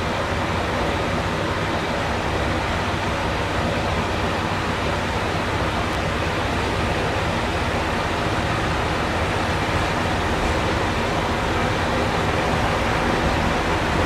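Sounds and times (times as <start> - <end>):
diesel railcar engines droning: 0.0 - 14.0.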